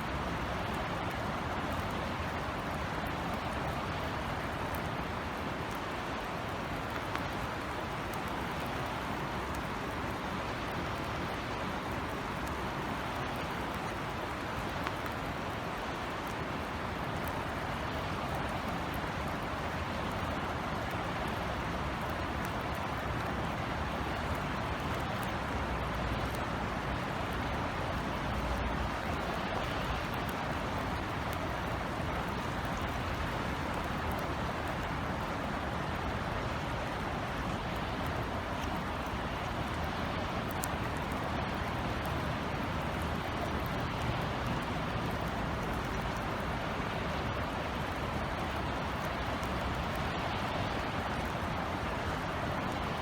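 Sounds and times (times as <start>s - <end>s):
faint raindrop ticks: 0.0s - 53.0s
rain hiss: 0.0s - 53.0s.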